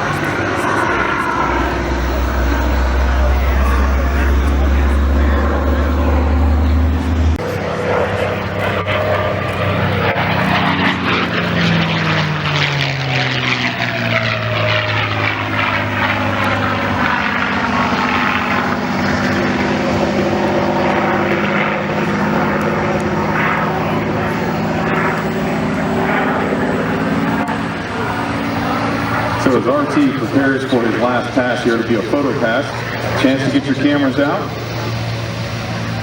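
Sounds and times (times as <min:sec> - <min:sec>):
propeller airplane flying past: 0:00.0 - 0:36.0.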